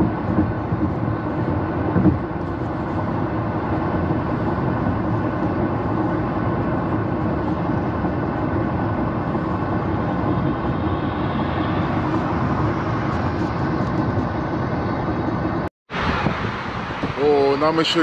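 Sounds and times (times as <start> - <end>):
car road noise inside cabin: 0.0 - 18.0.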